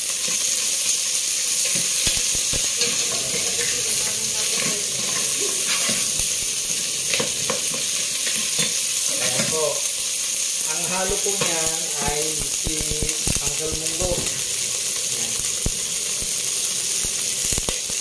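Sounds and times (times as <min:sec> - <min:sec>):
food sizzling in pot: 0:00.0 - 0:18.0.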